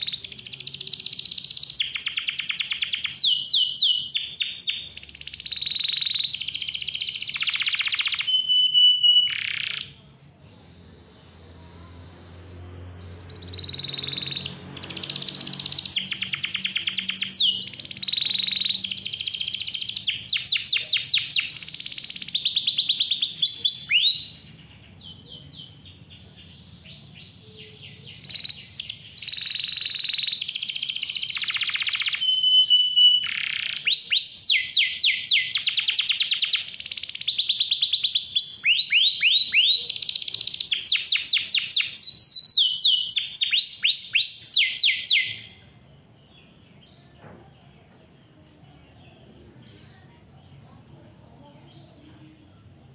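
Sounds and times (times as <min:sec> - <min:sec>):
canary singing trills: 0:00.0 - 0:10.1, 0:10.9 - 0:47.2.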